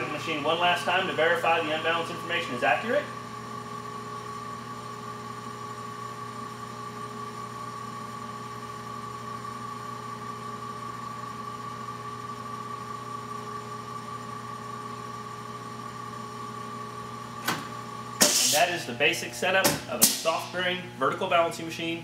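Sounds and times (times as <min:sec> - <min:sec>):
balancing machine electric hum: 0:00.0 - 0:22.0.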